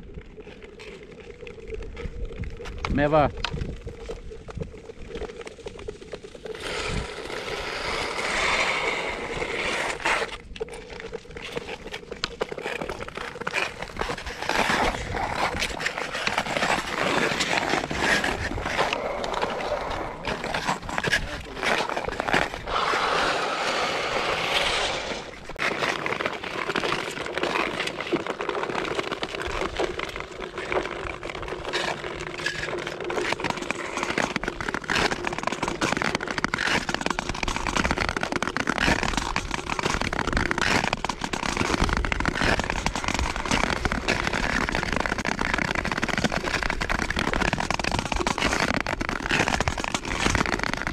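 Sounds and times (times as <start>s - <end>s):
skate blades scraping on ice: 0.1s - 50.9s.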